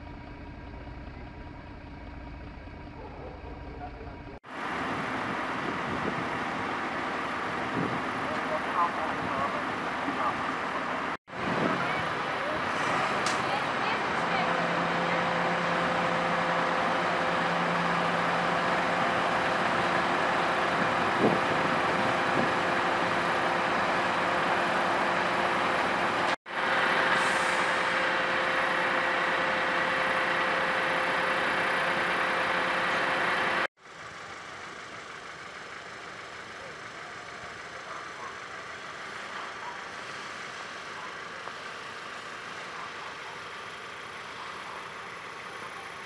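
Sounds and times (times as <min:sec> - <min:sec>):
diesel engine drone: 0:00.0 - 0:46.0.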